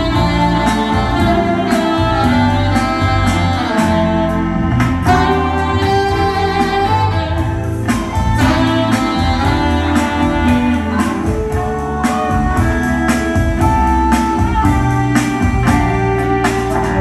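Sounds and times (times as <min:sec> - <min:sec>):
bass line: 0:00.0 - 0:17.0
electric guitar: 0:00.0 - 0:17.0
saxophone melody: 0:00.0 - 0:17.0.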